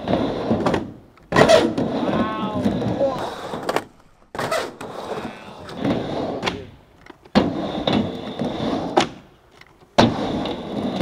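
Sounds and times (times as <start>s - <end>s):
skateboard clacks: 0.0s - 11.0s
skateboard wheels rolling: 0.0s - 11.0s.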